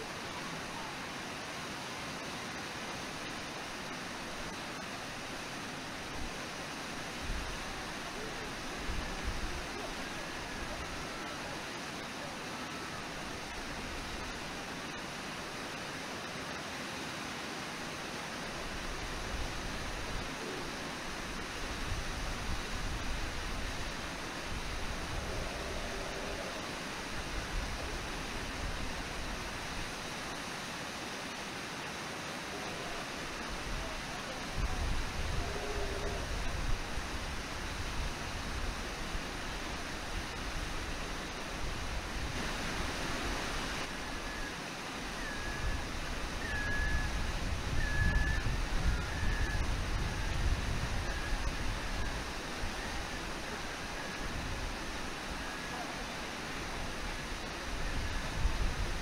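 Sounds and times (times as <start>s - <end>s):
waterfall and river rapids rushing: 0.0s - 59.0s.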